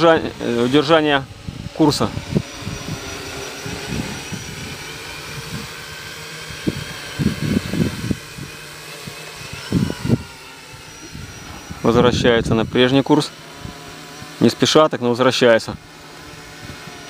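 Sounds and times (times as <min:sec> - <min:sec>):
wind gusts on microphone: 0:00.0 - 0:14.4, 0:15.7 - 0:17.0
drone motors whining: 0:00.0 - 0:17.0.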